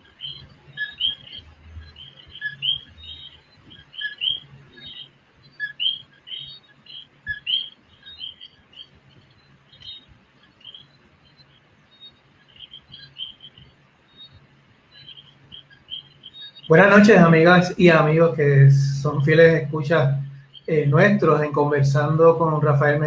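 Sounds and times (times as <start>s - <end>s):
faint low hum: 0.0s - 23.0s
frogs chirping: 0.0s - 23.0s.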